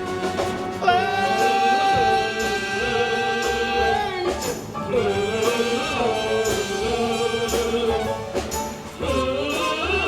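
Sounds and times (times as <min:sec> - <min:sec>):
instrumental accompaniment: 0:00.0 - 0:10.0
percussion accents: 0:00.0 - 0:10.0
voices singing: 0:00.8 - 0:10.0.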